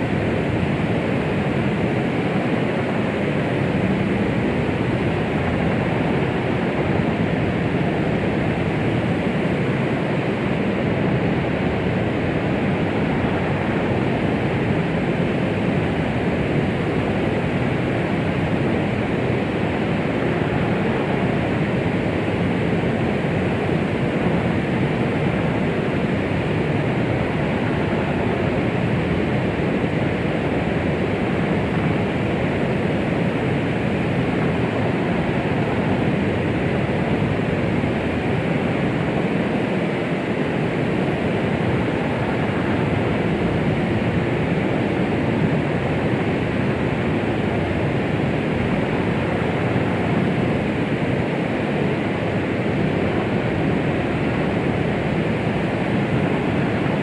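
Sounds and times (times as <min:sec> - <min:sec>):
steady rushing white noise: 0:00.0 - 0:57.0.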